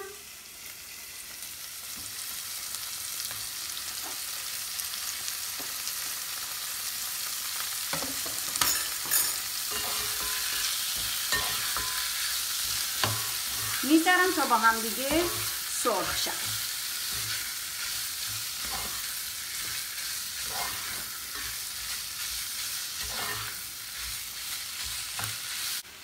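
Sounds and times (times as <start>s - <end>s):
onion and meat sizzling: 0.0s - 26.0s.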